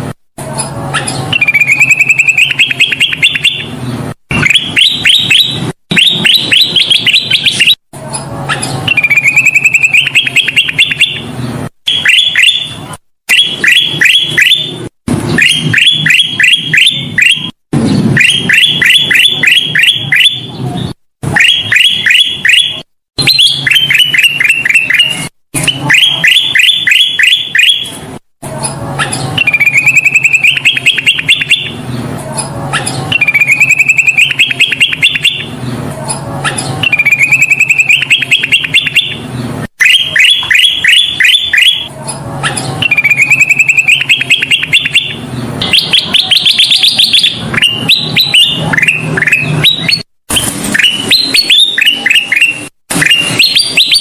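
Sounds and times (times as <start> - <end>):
bird singing rapid chirps: 0.5 - 28.0, 28.6 - 54.0.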